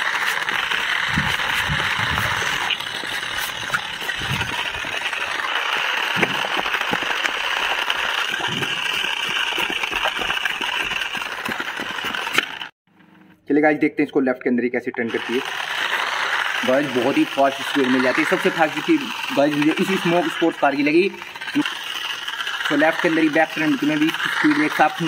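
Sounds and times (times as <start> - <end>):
plastic tyres rattling on concrete: 0.0 - 12.7, 15.1 - 25.0
toy car motor whirring: 0.0 - 12.7, 15.0 - 25.0.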